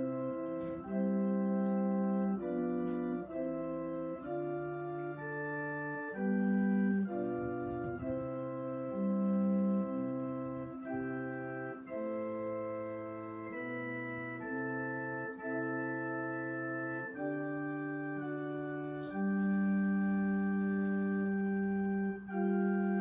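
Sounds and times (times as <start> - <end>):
electronic organ chords: 0.0 - 23.0.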